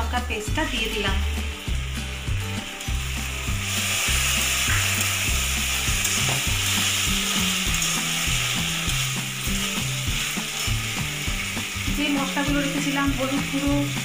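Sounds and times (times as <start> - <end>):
rice sizzling in hot oil: 0.0 - 14.0.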